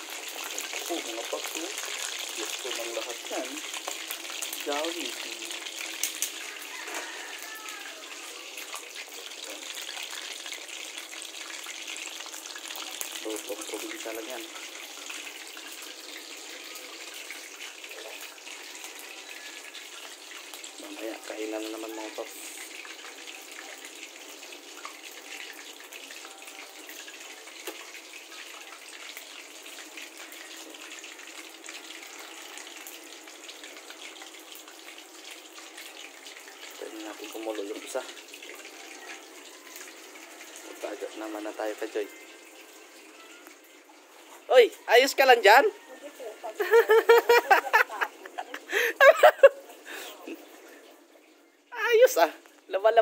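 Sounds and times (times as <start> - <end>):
oil crackling and popping: 0.0 - 45.2, 52.3 - 52.7
chicken deep-frying in oil: 0.0 - 53.0.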